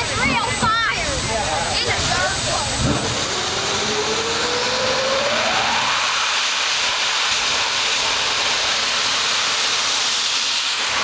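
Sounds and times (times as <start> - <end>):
small jet engine roaring: 0.0 - 11.0.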